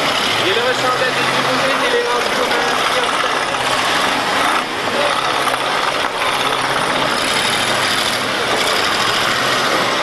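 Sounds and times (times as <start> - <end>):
car engines running: 0.0 - 10.0.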